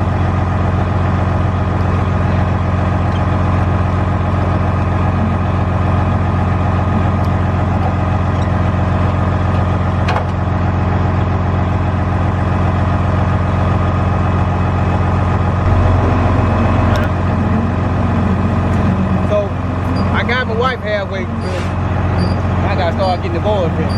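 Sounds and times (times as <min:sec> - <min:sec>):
vehicle engine running steadily: 0:00.0 - 0:23.9.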